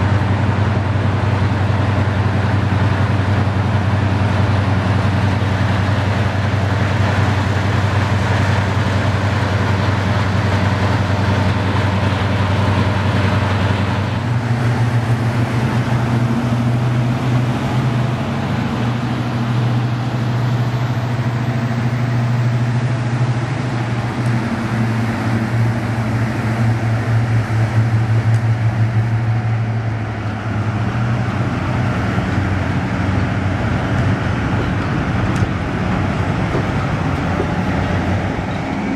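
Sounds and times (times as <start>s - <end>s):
diesel locomotive engines running: 0.0s - 38.9s
train coaches rolling past: 0.0s - 38.9s.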